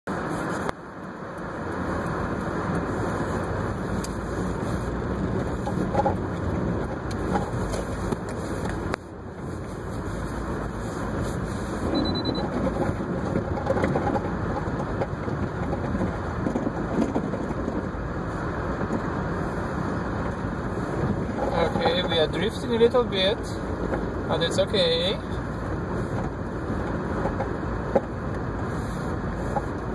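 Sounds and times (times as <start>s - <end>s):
car engine noise: 0.0s - 29.9s
tyres rumbling on packed snow: 0.1s - 29.9s.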